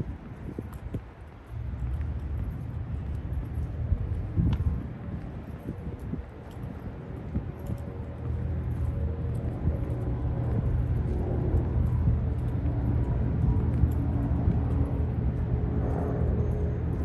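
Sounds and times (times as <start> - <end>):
low engine rumble: 1.5 - 17.0.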